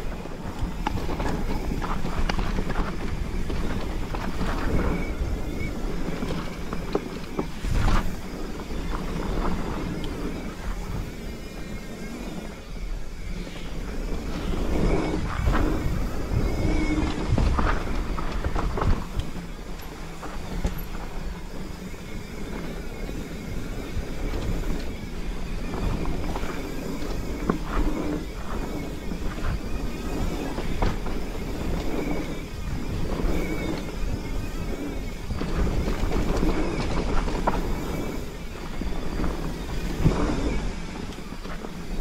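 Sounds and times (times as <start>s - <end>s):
bike rattling over bumps: 0.0s - 42.0s
tyre noise on dirt: 0.0s - 42.0s
wind on microphone: 0.0s - 42.0s.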